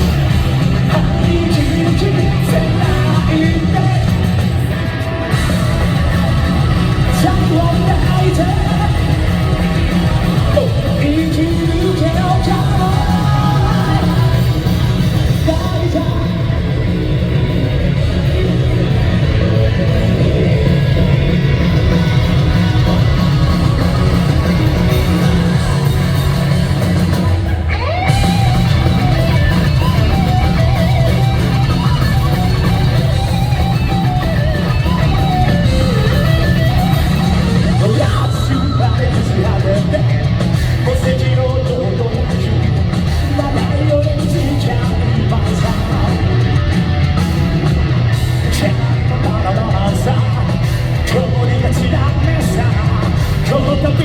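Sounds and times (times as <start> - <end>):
live rock band playing: 0.0 - 54.0
man singing and shouting: 0.0 - 54.0.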